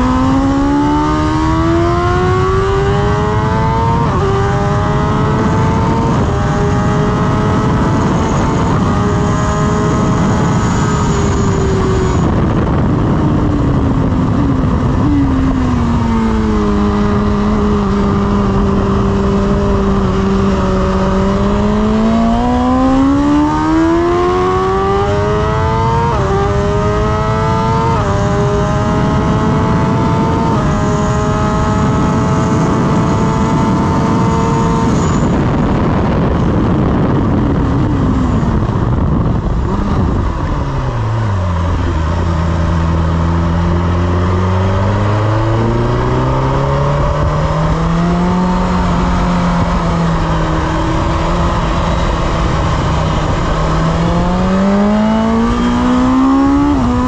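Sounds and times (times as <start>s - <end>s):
motorcycle engine revving through gears: 0.0s - 57.0s
wind rush: 0.0s - 57.0s.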